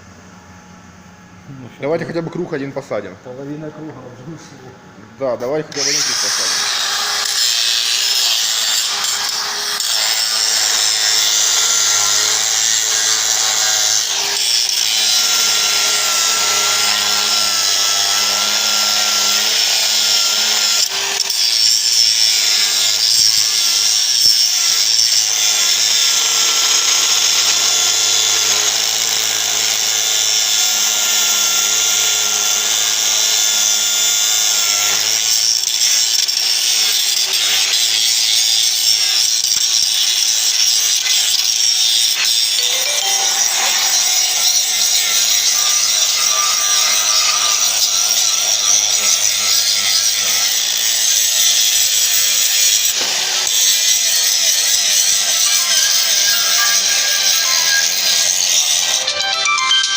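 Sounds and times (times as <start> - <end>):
angle grinder grinding: 5.4 - 59.9.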